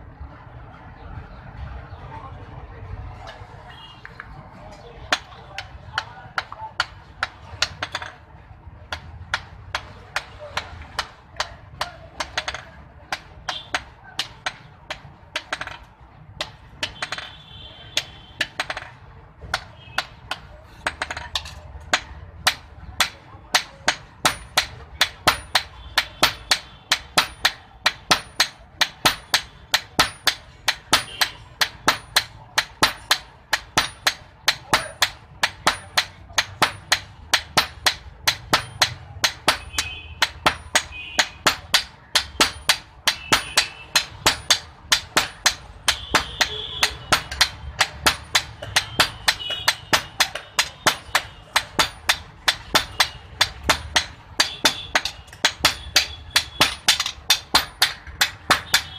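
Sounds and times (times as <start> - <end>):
hammer striking iron on anvil: 8.9 - 58.9.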